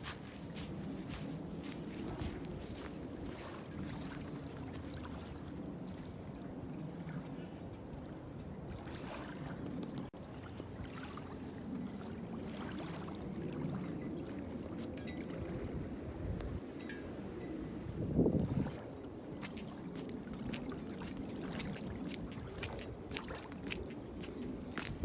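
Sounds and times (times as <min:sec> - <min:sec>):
wind on microphone: 0:00.0 - 0:10.1, 0:11.2 - 0:25.0.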